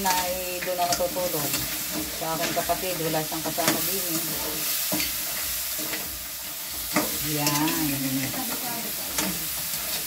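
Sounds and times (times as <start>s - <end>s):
crabs sizzling in a wok: 0.0s - 10.0s.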